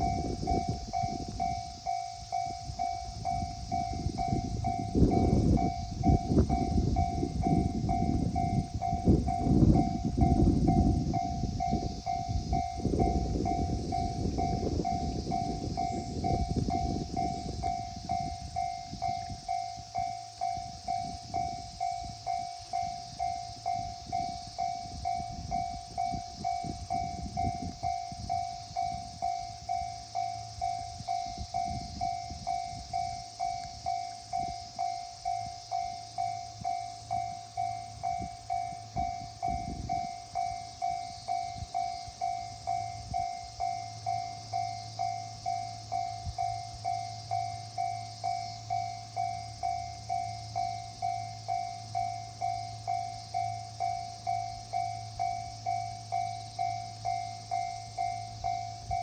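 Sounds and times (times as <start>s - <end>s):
level-crossing alarm ding: 0.0s - 59.0s
train rumbling past: 0.0s - 59.0s.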